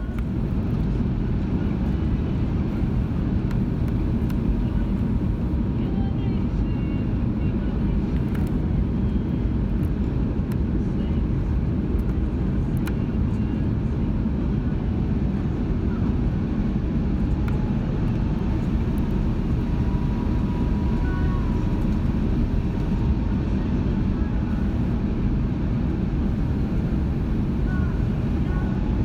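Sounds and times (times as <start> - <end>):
airplane cabin roar: 0.0 - 10.4, 11.0 - 29.0.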